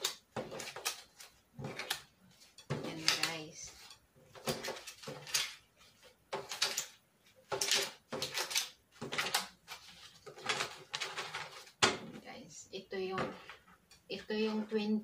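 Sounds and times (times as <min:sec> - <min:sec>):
banknotes rustling and slapping: 0:00.0 - 0:12.2.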